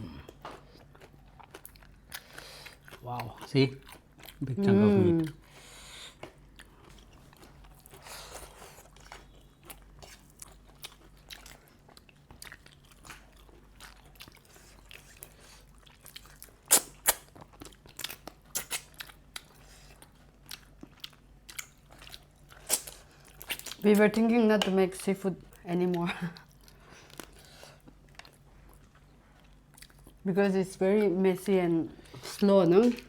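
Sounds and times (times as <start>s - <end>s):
close chewing: 0.2s - 24.1s, 25.5s - 30.2s.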